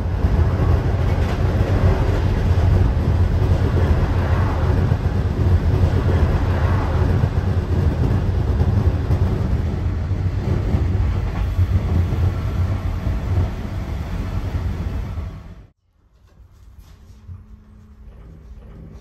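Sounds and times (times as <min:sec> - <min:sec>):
train wheels rumbling on track: 0:00.0 - 0:15.8.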